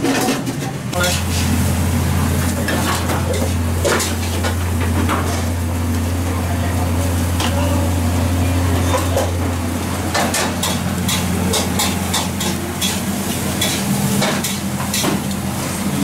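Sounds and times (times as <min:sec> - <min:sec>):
food sizzling: 0:01.0 - 0:16.0.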